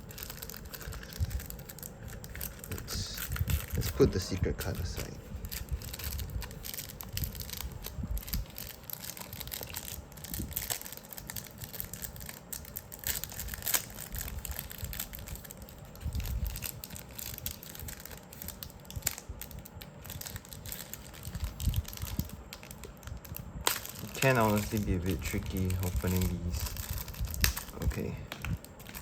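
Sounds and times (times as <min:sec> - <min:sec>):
packaging crinkling and tearing: 0:00.0 - 0:29.0.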